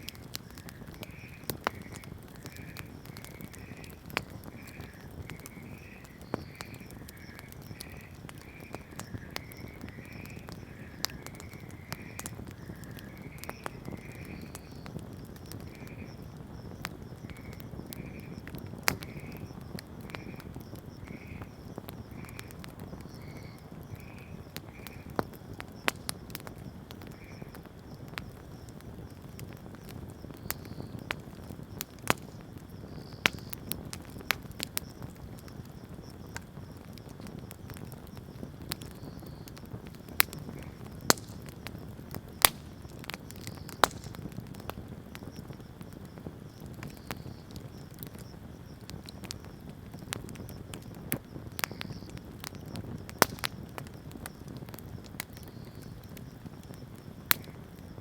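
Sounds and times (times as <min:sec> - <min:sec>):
bonfire pops and snaps: 0:00.0 - 0:58.0
low rumble of burning fire: 0:00.0 - 0:58.0.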